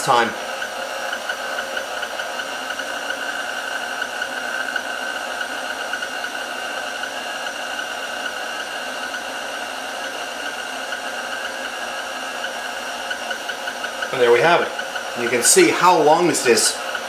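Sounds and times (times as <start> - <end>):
mixer motor whirring: 0.0 - 17.0.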